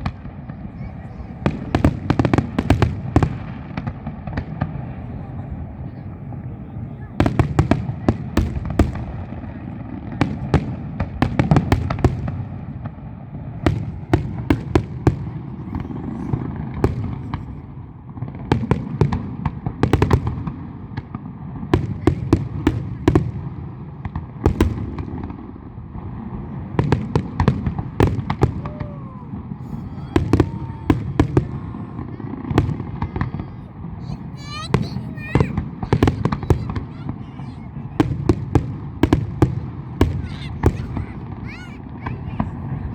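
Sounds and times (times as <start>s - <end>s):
fireworks cracking: 0.0s - 42.9s.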